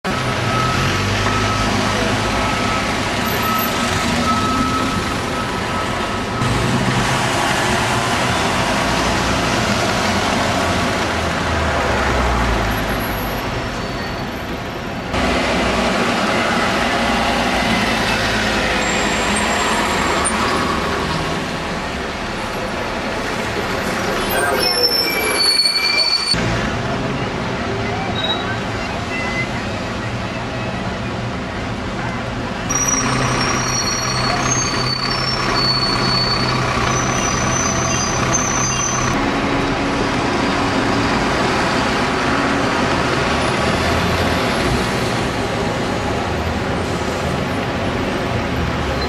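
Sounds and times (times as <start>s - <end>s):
buses and cars passing: 0.0s - 49.0s.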